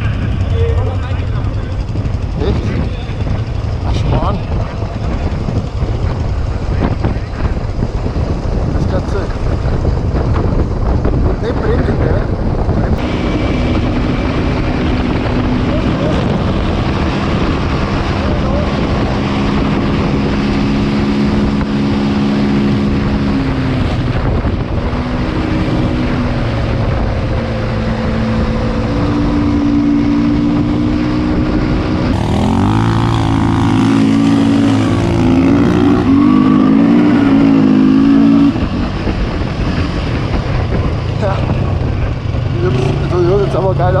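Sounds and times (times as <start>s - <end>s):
quad engines running: 0.0s - 44.0s
wind on microphone: 0.0s - 44.0s.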